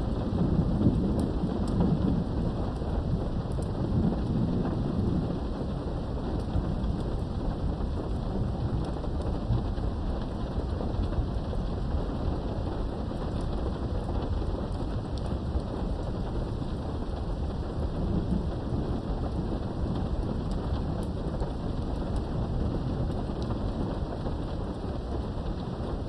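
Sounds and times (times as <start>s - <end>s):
low rolling thunder: 0.0s - 26.0s
raindrops ticking: 0.0s - 26.0s.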